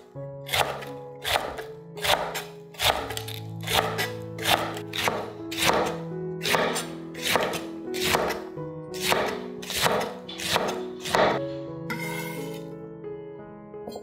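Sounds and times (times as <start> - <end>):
knife slicing cabbage: 0.0 - 12.7
background music: 0.0 - 14.0.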